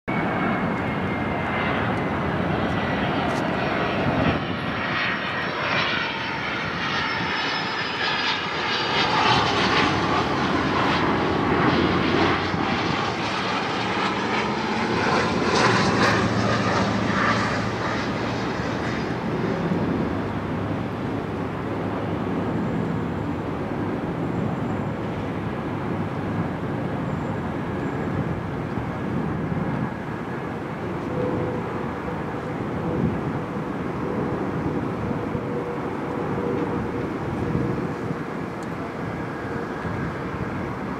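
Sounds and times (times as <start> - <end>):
jet engines whining and rumbling: 0.1 - 40.9.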